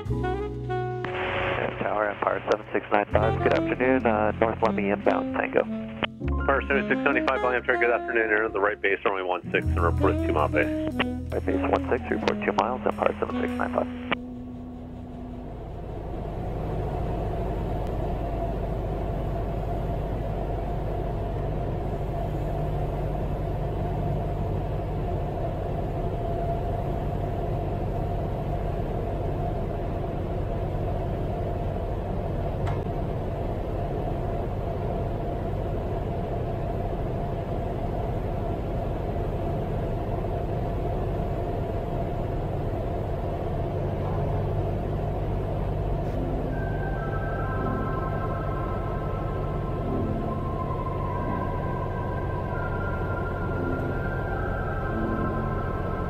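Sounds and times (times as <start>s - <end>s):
aircraft piston engine droning: 0.0s - 56.0s
steady hum: 0.0s - 56.0s.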